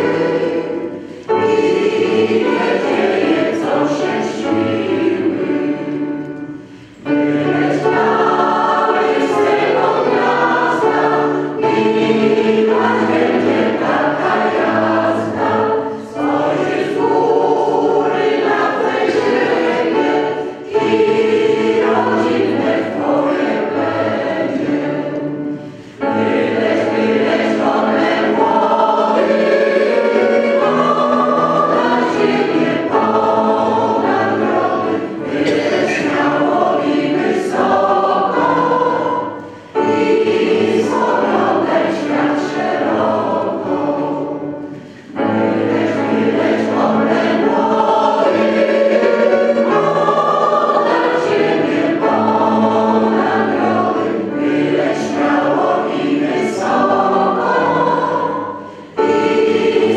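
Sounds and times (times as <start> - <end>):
mixed choir singing: 0.0 - 59.9.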